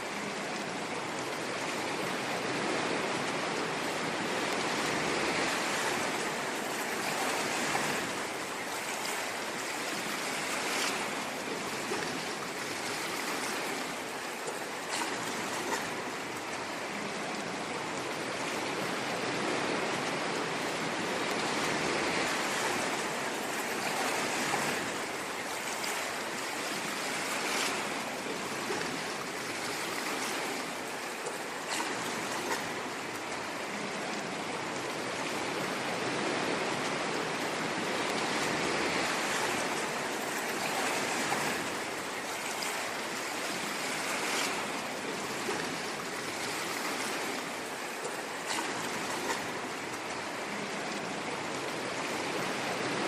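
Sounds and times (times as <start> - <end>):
ocean waves washing in: 0.0 - 53.0.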